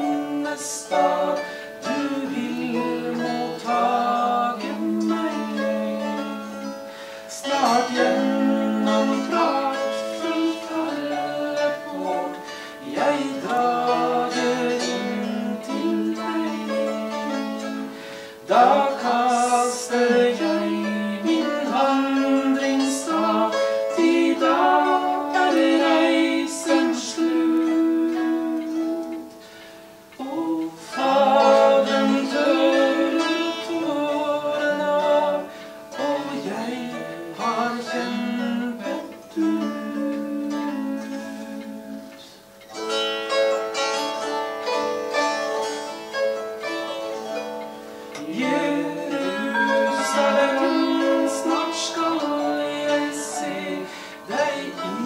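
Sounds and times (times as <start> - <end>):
box zithers strummed: 0.0 - 55.0.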